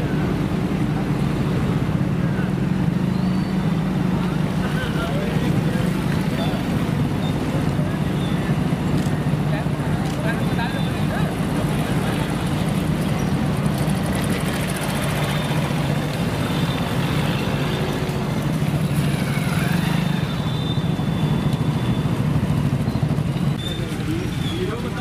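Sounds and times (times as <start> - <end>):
motorcycle engines droning: 0.0 - 25.0.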